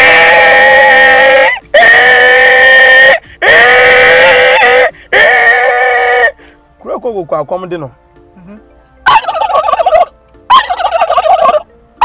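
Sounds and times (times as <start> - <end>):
man imitating animal cries: 0.0 - 6.4, 8.4 - 11.7.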